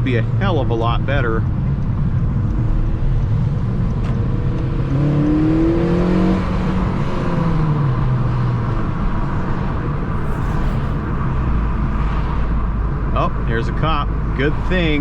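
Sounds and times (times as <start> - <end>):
car engine accelerating: 0.0 - 15.0
road noise rumble: 0.0 - 15.0.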